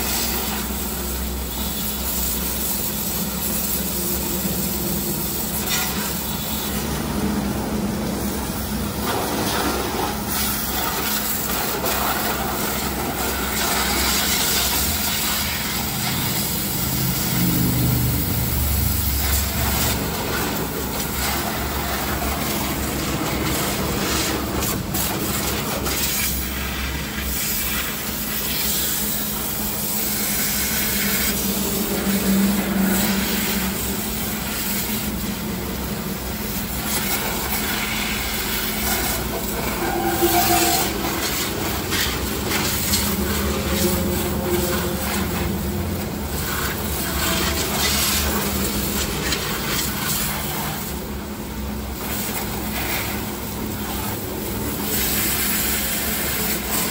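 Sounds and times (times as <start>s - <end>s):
pressure washer spraying water: 0.0s - 56.9s.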